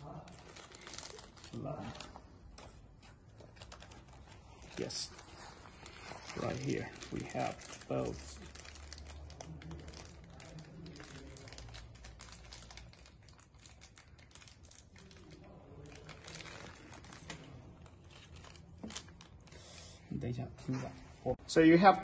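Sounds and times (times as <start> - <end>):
plastic bag crinkling: 0.0 - 19.5.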